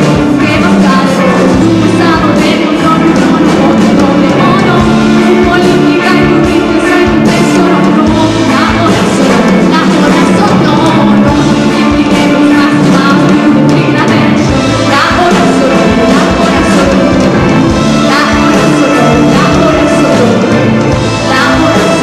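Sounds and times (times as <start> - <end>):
drum kit: 0.0 - 22.0
live rock band playing: 0.0 - 22.0.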